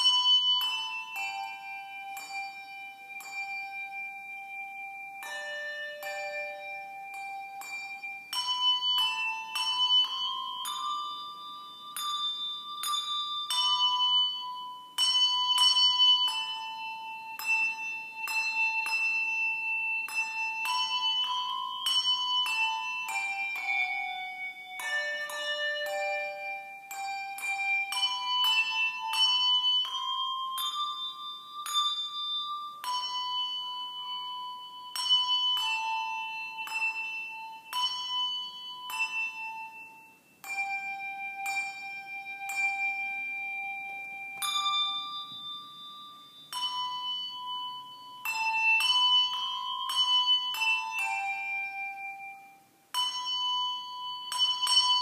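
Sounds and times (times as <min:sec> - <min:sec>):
handbells playing slow melody: 0:00.0 - 0:55.0.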